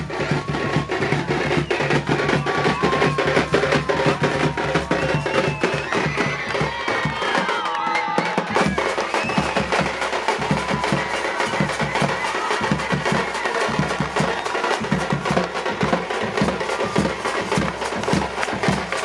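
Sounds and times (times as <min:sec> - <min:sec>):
fast dense drumming: 0:00.0 - 0:19.0.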